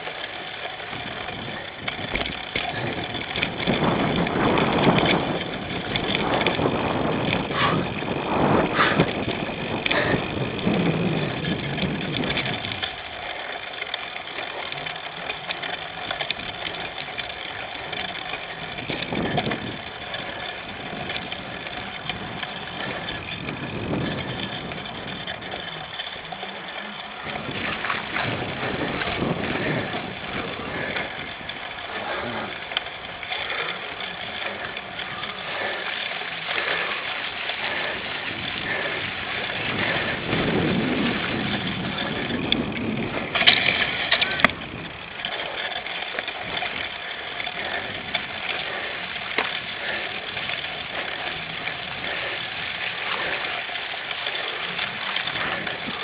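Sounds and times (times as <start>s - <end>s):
bicycle ride noise: 0.0s - 56.0s.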